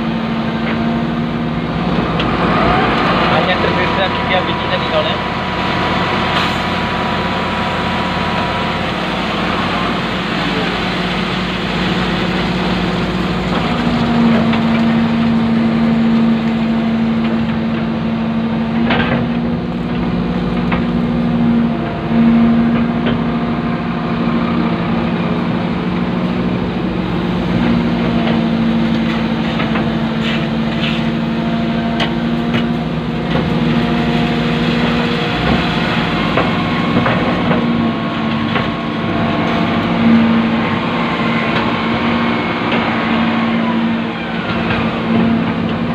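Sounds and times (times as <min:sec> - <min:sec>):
excavator engine low hum: 0:00.0 - 0:45.9
higher hydraulic hum: 0:00.0 - 0:45.9.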